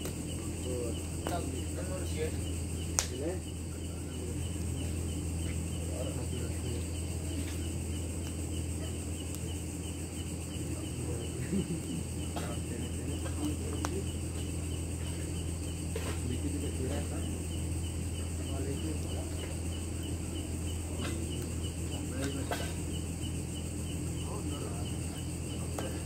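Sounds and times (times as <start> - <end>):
constant low hum: 0.0 - 26.0
crickets chirring: 0.0 - 26.0.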